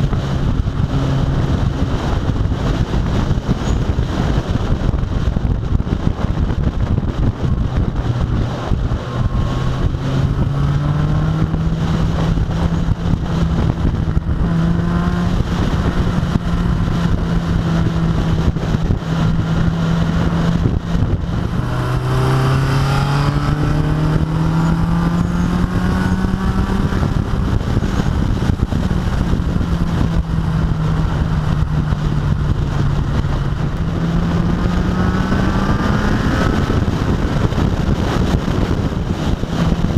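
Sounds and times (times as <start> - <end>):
car engine accelerating: 0.0 - 39.9
wind and road rush: 0.0 - 39.9.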